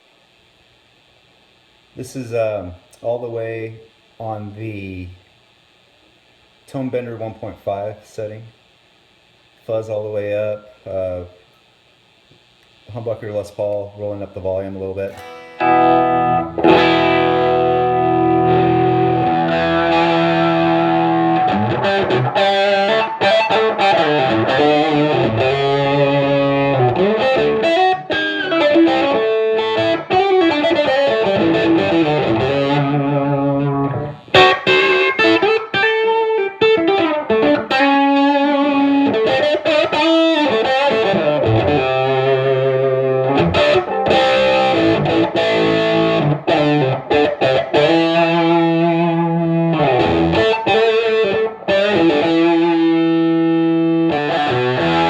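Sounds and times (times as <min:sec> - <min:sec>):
fuzzed electric guitar: 0:00.0 - 0:55.0.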